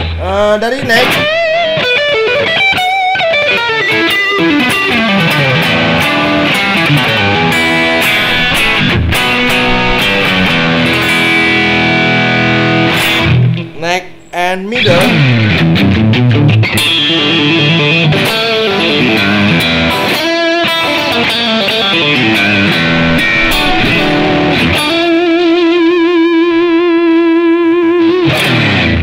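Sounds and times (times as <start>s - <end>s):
overdriven electric guitar lead: 0.0s - 29.0s.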